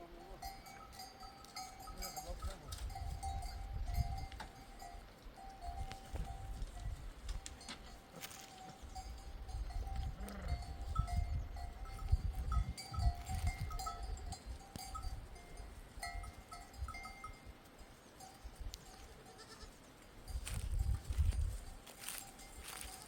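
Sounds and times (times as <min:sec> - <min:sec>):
animal bells clinking: 0:00.0 - 0:23.0.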